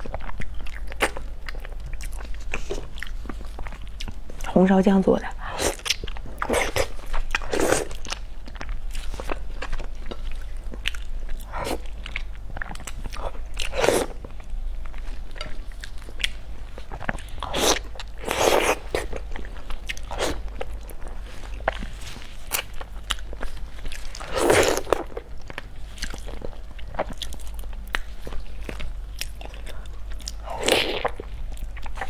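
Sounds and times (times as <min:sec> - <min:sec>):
person chewing and biting food: 0:05.5 - 0:32.0.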